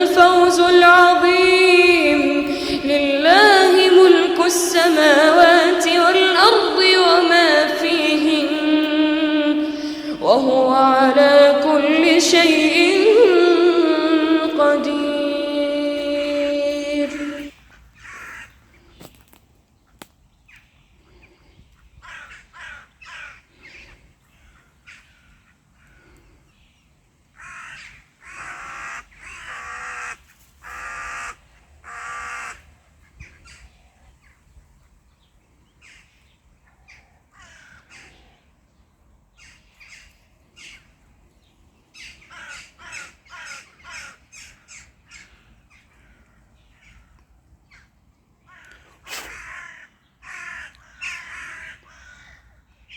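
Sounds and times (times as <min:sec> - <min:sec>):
birds calling: 0:00.0 - 0:52.9.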